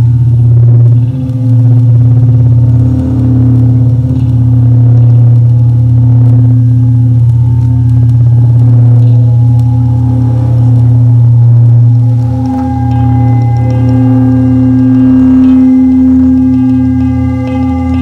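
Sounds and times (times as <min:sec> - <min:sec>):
singing bowl drone: 0:00.0 - 0:18.0.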